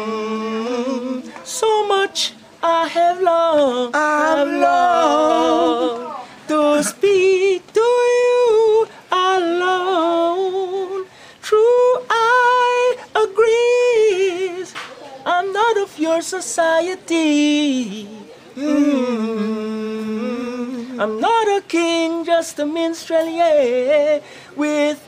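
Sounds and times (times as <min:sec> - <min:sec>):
man singing reggae unaccompanied: 0:00.0 - 0:25.0.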